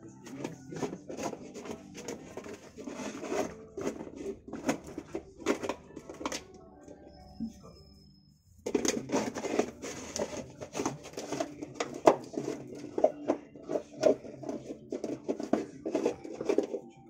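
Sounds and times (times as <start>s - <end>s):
puppy claws scratching tiled floor: 0.2s - 6.4s, 8.7s - 17.0s.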